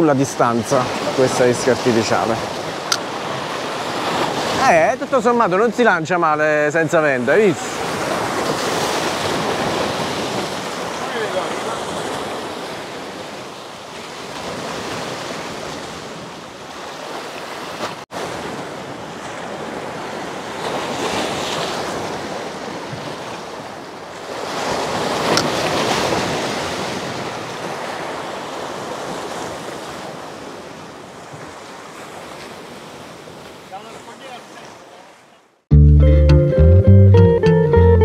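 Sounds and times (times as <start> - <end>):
waves breaking over rocks: 0.0 - 35.3.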